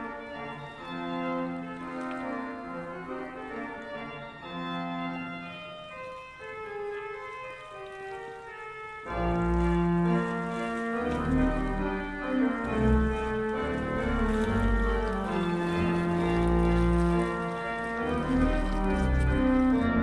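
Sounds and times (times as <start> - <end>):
music of long held chords: 0.0 - 20.0.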